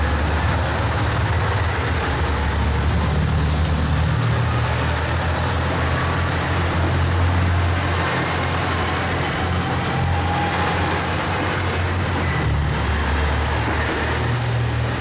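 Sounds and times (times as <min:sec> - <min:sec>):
diesel railcar engine hum: 0:00.0 - 0:15.0.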